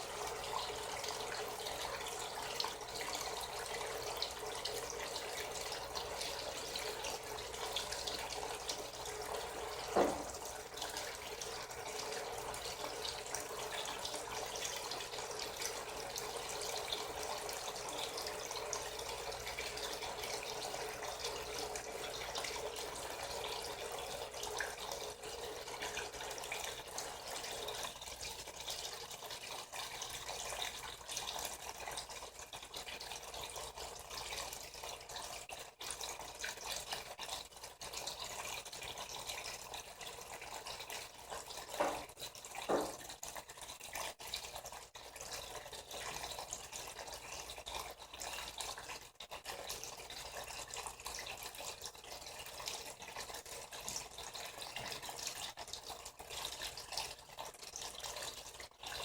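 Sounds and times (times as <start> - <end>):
water filling washing machine: 0.0 - 59.0.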